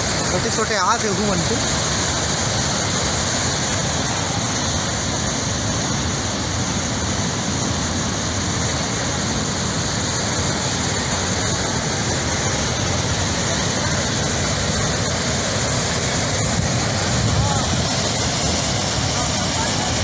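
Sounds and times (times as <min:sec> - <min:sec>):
river rushing in flood: 0:00.0 - 0:20.0.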